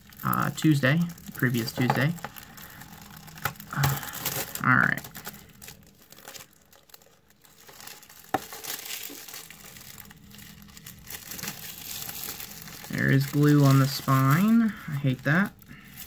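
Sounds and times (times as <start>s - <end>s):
plastic wrap tearing and crinkling: 0.0s - 16.0s.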